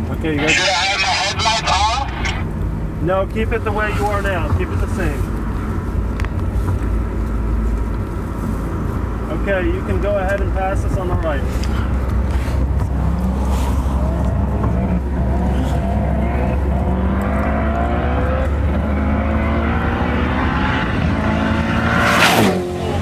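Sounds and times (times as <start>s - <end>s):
car rumble and wind: 0.0s - 23.0s
sports car engine at full throttle: 0.0s - 23.0s.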